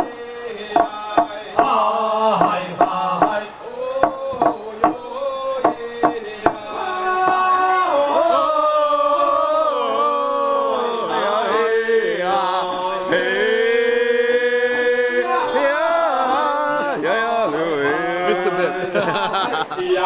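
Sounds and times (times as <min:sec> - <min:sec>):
ritual chanting voices: 0:00.0 - 0:20.0.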